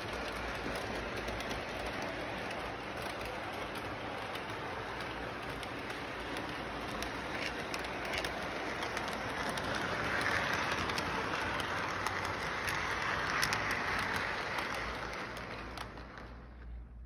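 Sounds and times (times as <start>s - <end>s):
train rushing noise: 0.0s - 17.0s.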